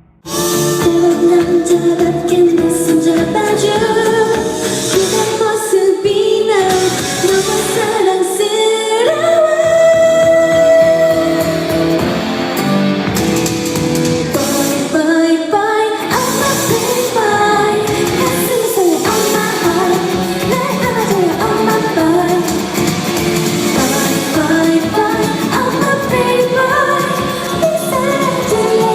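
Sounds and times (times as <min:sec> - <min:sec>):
instrumental backing music: 0:00.1 - 0:28.9
woman singing pop: 0:00.6 - 0:11.8, 0:14.3 - 0:28.9.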